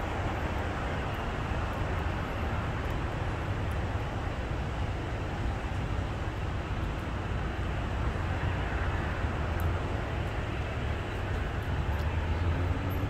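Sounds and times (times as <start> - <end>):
distant airport and traffic rumble: 0.0 - 13.0.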